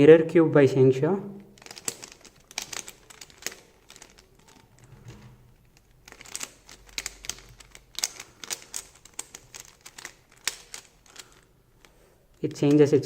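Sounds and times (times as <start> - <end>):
puzzle cube clicking: 1.4 - 4.9, 5.5 - 12.9.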